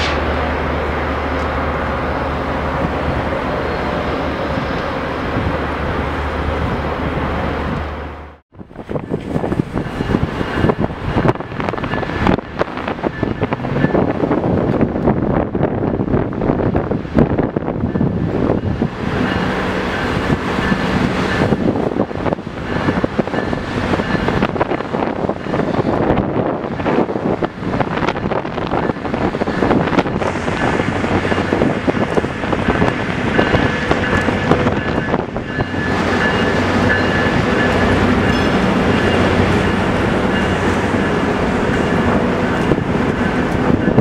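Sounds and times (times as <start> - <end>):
diesel locomotive passing: 0.0 - 44.0
train wheels on rails: 0.0 - 44.0
wind buffeting microphone: 0.0 - 44.0.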